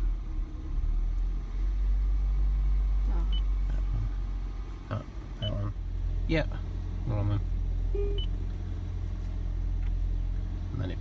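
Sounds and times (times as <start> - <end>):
car cabin low rumble: 0.0 - 11.0.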